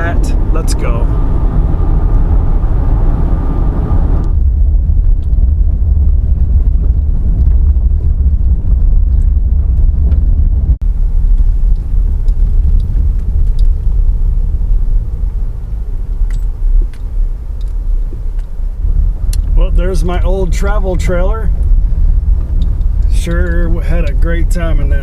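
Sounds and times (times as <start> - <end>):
car road noise on gravel: 0.0 - 25.0.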